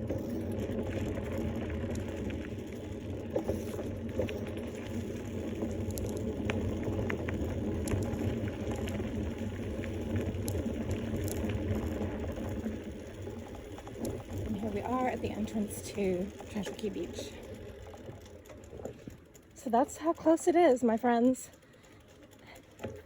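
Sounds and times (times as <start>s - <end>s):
bicycle clicks and rattles: 0.0s - 23.0s.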